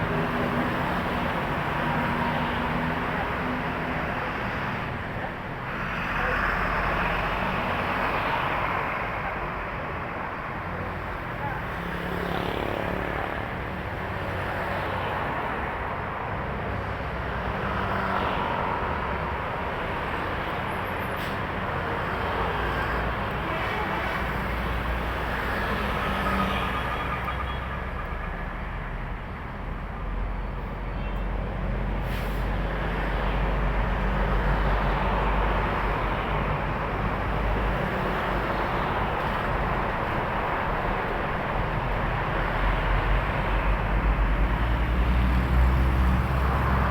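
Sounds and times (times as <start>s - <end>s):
highway traffic passing: 0.0s - 46.9s.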